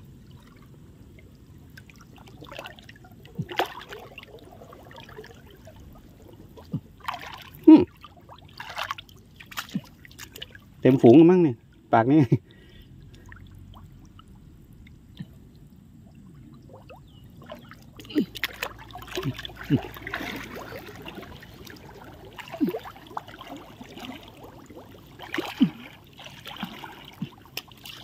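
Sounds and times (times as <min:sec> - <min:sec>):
water splashing and gurgling: 0:00.0 - 0:28.0.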